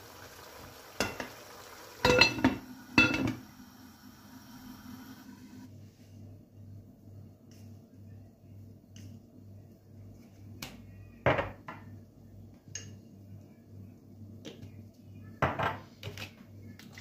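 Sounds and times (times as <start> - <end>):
faint low hum: 2.2 - 17.0.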